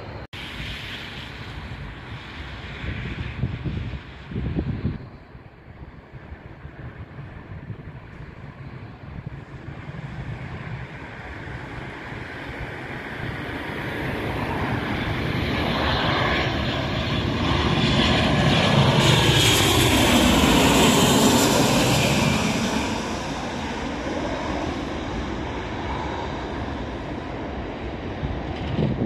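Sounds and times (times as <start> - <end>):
jet engines passing overhead: 0.0 - 29.0.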